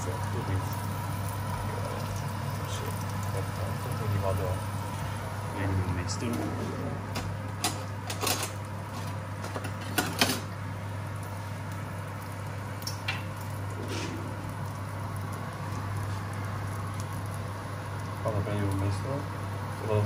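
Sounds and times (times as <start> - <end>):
meat sizzling in a pan: 0.0 - 6.1, 7.4 - 20.0
steady low hum: 0.0 - 20.0
water boiling in a pot: 0.0 - 20.0.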